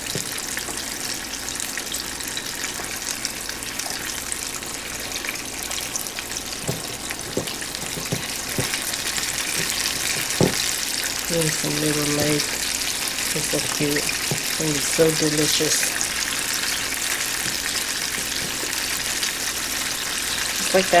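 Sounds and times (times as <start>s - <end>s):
oil sizzling and crackling: 0.0s - 21.0s.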